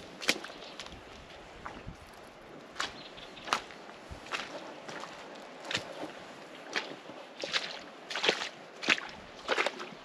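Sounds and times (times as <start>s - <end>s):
footsteps crunching in snow: 0.0s - 10.0s.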